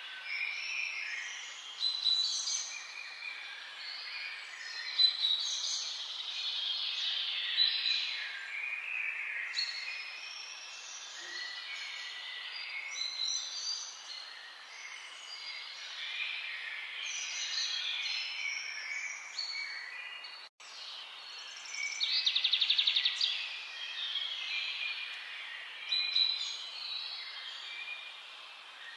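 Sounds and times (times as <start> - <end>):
wild birds calling and singing: 0.0 - 28.9.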